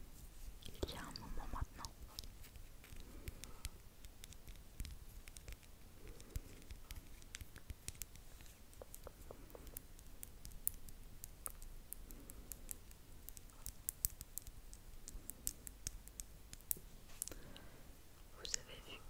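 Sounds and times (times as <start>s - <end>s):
lip clicks and pops: 0.6s - 17.4s.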